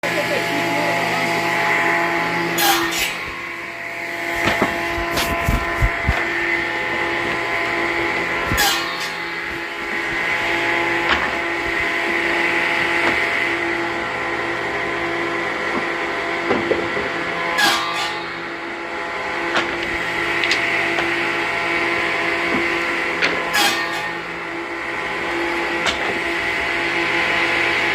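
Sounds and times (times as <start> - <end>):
saw motor running: 0.0 - 27.9.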